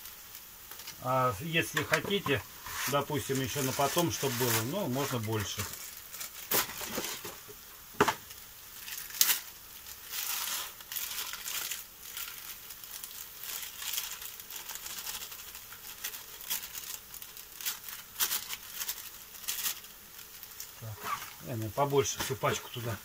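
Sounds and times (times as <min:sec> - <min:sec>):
dry grains pouring into pan: 0:00.0 - 0:07.4, 0:08.3 - 0:20.8
plastic bag crinkling: 0:00.0 - 0:07.6, 0:08.2 - 0:23.0.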